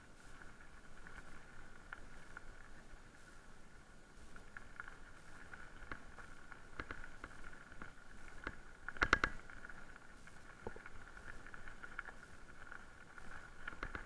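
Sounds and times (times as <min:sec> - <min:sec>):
bike ticks and rattles: 0:00.0 - 0:14.0.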